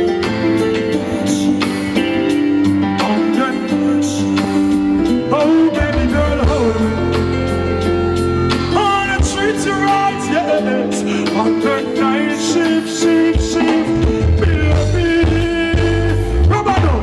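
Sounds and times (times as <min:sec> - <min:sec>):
live reggae band playing: 0:00.0 - 0:17.0
person singing: 0:00.0 - 0:17.0.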